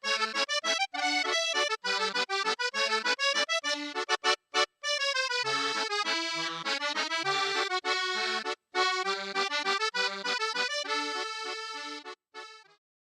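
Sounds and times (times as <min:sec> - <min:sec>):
accordion-like reed instrument melody: 0:00.0 - 0:12.8.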